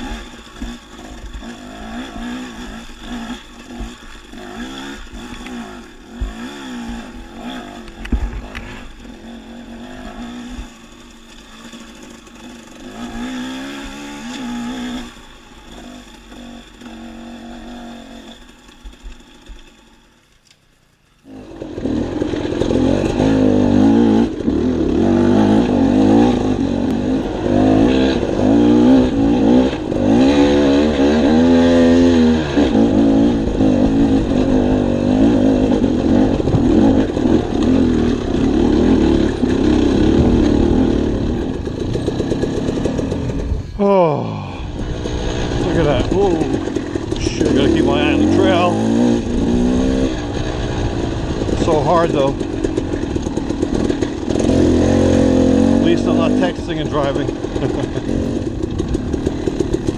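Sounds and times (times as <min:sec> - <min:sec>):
dirt bike engine revving: 0:00.0 - 0:20.4, 0:21.1 - 0:59.9.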